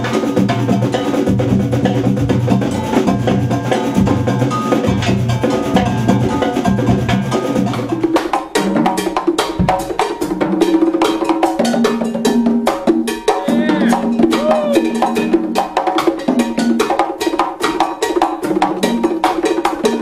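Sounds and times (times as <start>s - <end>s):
latin big band music: 0.0s - 20.0s.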